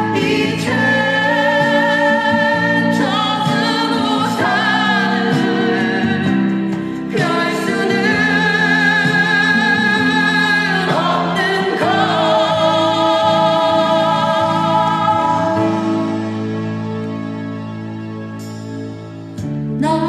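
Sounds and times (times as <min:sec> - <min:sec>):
pop ballad over loudspeakers: 0:00.0 - 0:20.0.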